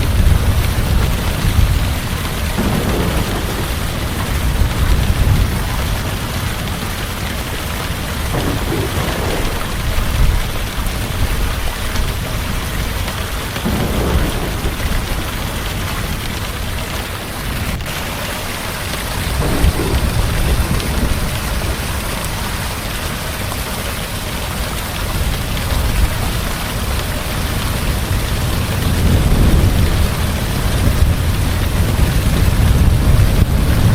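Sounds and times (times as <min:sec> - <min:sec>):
rolling thunder: 0:00.0 - 0:23.7, 0:27.3 - 0:33.9
heavy rain: 0:00.0 - 0:33.9.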